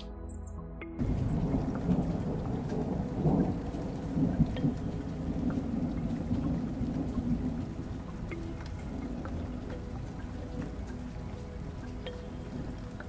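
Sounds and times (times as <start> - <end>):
low rumble of thunder: 1.0 - 13.0
steady rain: 1.0 - 13.0.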